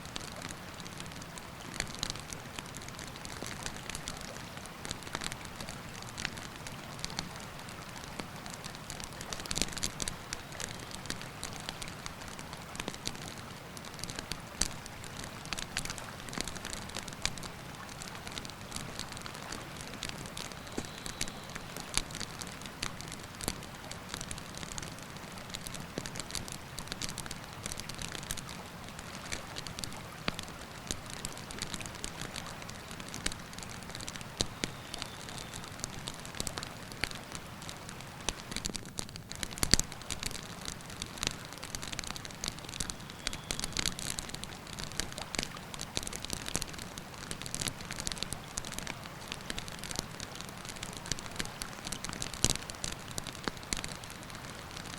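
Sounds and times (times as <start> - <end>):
campfire crackling and popping: 0.1 - 54.9.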